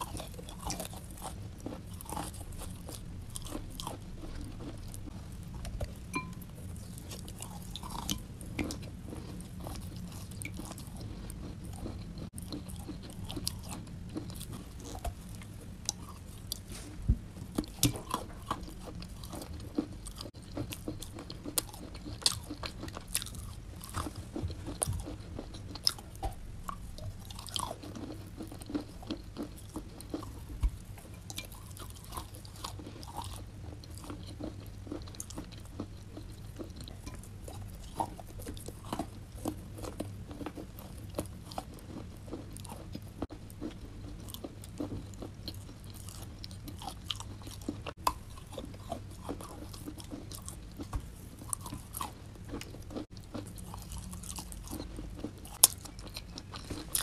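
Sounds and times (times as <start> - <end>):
chewing crunchy chalk: 0.0 - 57.0.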